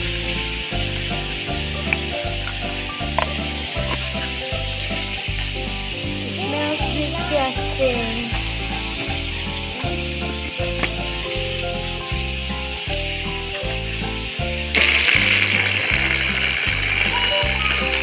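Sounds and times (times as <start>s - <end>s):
background music with beat: 0.0s - 18.0s.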